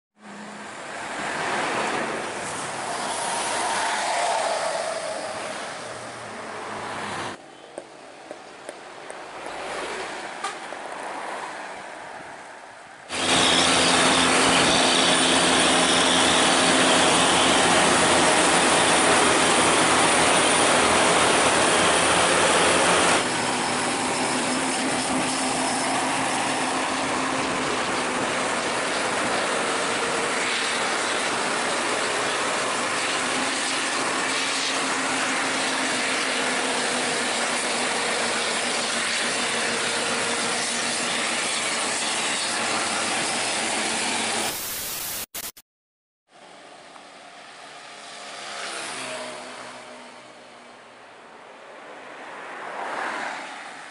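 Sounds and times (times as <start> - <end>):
highway traffic drone: 0.2 - 44.6, 46.3 - 53.9.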